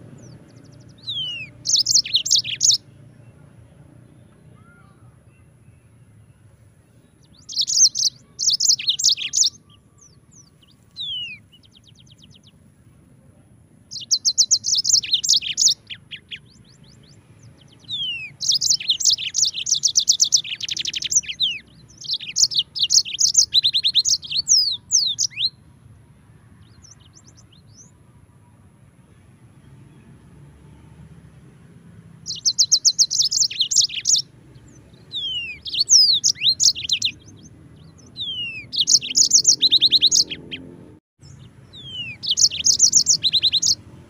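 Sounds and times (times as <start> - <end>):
canary singing trills: 0.0 - 3.5, 4.4 - 12.7, 13.8 - 25.6, 26.6 - 28.1, 32.1 - 44.0.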